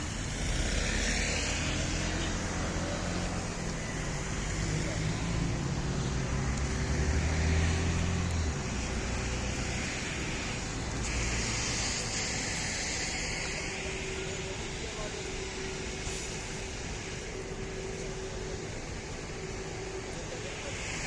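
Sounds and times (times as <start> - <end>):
hiss: 0.0 - 21.0
vehicle engine rumbling: 0.0 - 21.0.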